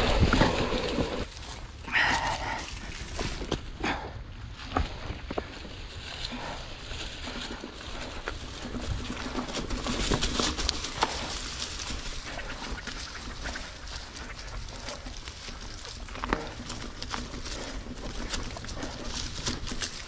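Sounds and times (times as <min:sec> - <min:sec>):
bike tyres crunching over leaves: 0:00.0 - 0:20.0.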